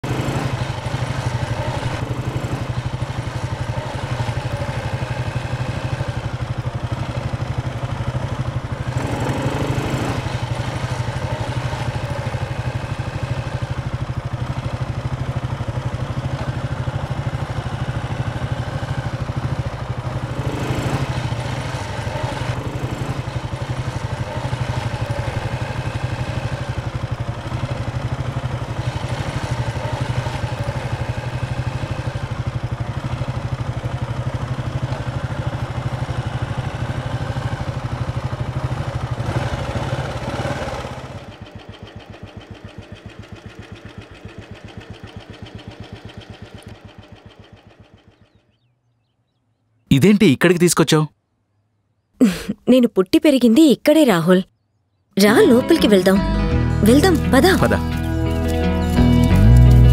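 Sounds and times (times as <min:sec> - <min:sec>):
motorcycle engine running: 0:00.0 - 0:49.6, 0:55.2 - 0:59.9.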